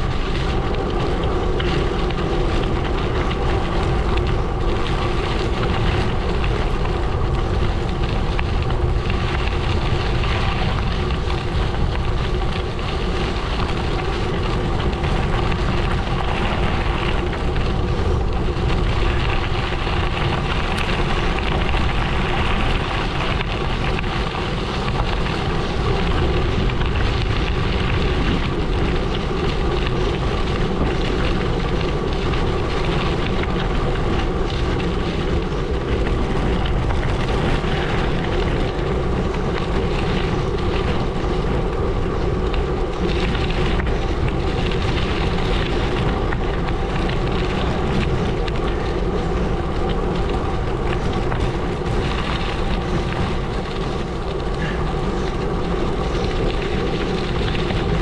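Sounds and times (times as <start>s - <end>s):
bike tyres crunching on gravel: 0.0s - 58.0s
faint steady hum: 0.0s - 58.0s
wind buffeting microphone: 0.0s - 58.0s.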